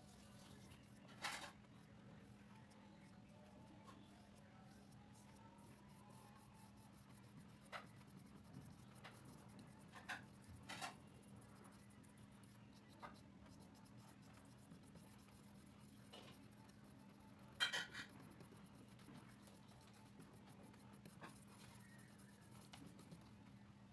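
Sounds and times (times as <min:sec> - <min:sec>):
paintbrush strokes on paper: 0:00.0 - 0:23.6
faint low hum: 0:00.0 - 0:23.9.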